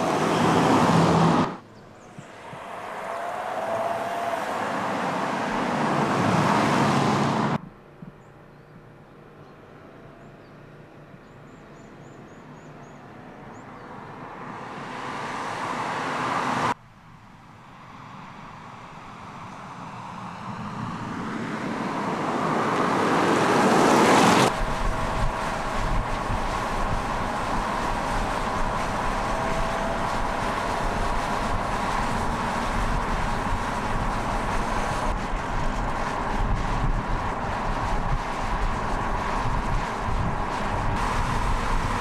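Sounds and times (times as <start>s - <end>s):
car engine approaching: 0.0s - 16.8s, 17.4s - 42.0s.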